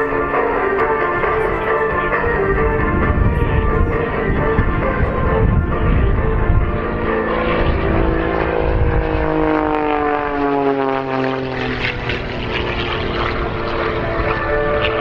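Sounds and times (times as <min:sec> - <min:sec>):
propeller aircraft flying past: 0:00.0 - 0:15.0.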